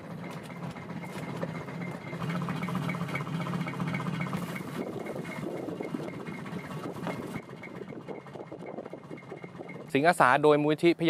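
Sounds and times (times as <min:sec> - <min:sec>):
motor humming with even ticking: 0:00.0 - 0:11.0.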